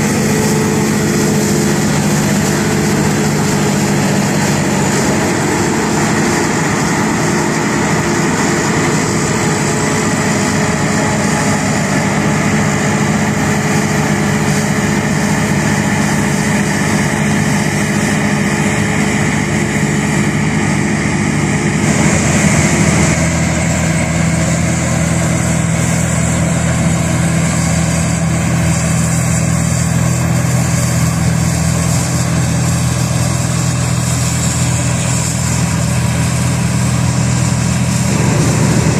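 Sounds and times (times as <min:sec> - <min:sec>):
combine harvester low hum: 0:00.0 - 0:38.9
combine harvester running: 0:00.0 - 0:38.9.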